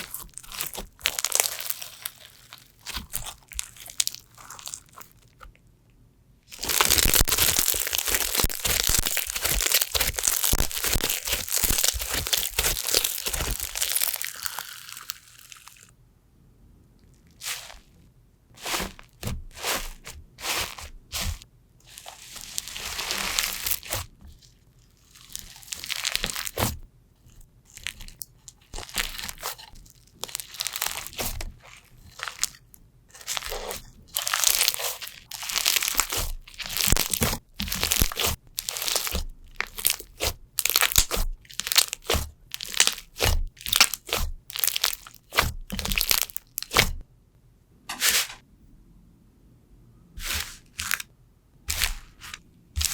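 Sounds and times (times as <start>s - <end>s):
slime crackling: 0.0s - 5.5s, 6.5s - 15.9s, 17.4s - 17.9s, 18.6s - 24.2s, 25.0s - 47.0s, 50.2s - 51.0s, 51.7s - 52.9s.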